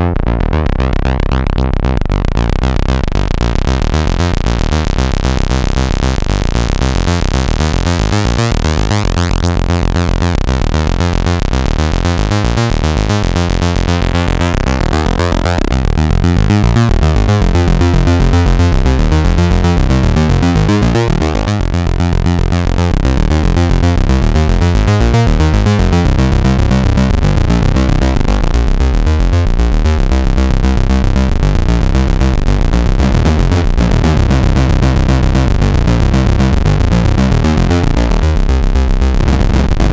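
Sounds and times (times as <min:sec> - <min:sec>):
synthesizer repeating sequence: 0:00.0 - 0:39.9.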